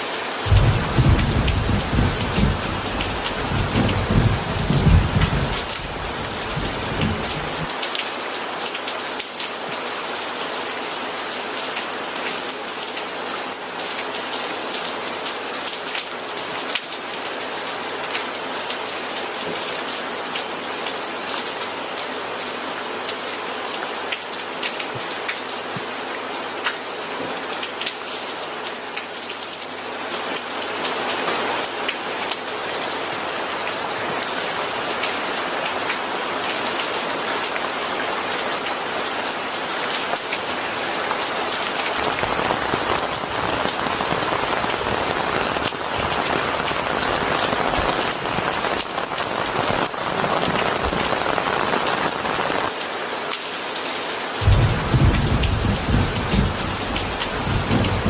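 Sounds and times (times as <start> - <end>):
rain drops ticking on a surface: 0.0 - 58.0.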